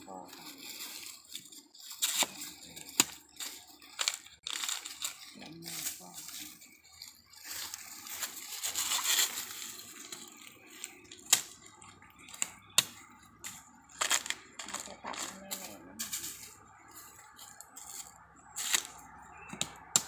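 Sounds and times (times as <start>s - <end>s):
dry husks rustling and crackling: 0.0s - 20.0s.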